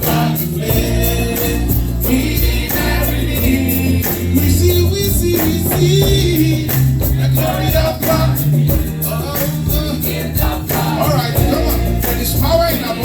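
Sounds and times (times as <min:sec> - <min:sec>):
bass: 0:00.0 - 0:13.0
gospel singing over a beat: 0:00.0 - 0:13.0
shaken tambourine: 0:00.0 - 0:13.0.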